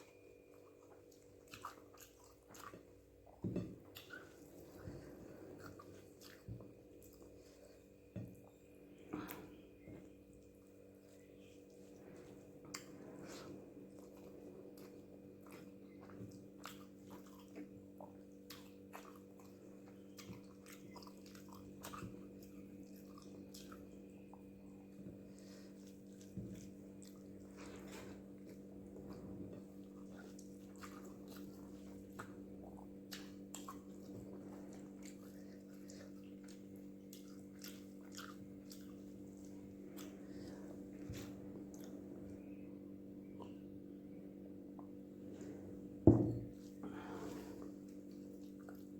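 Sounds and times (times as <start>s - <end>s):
wet chewing and mouth clicks: 0.0s - 9.5s, 10.3s - 42.6s, 43.2s - 43.8s, 47.8s - 48.9s
steady low hum: 0.0s - 48.9s.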